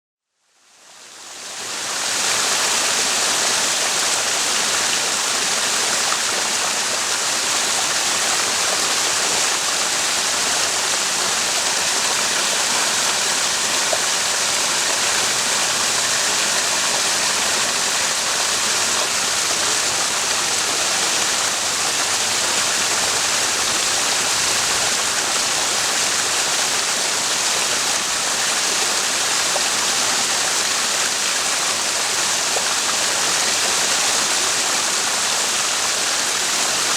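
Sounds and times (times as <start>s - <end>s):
water running over rocks: 1.4s - 36.9s.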